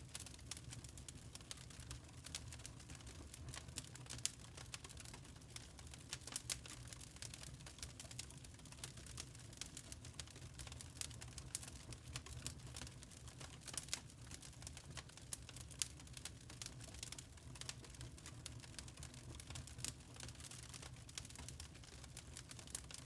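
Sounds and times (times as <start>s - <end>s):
charcoal crackling and popping: 0.0s - 23.0s.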